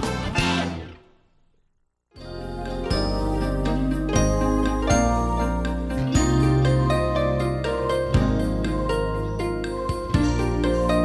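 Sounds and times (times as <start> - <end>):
instrumental background music: 2.2 - 11.0.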